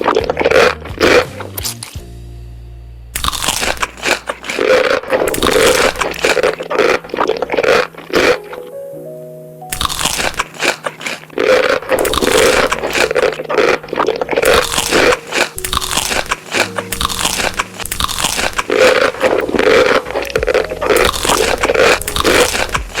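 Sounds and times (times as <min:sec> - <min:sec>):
crunchy bites and chewing: 0:00.0 - 0:02.0, 0:03.2 - 0:08.7, 0:09.7 - 0:23.0
background music: 0:00.0 - 0:23.0.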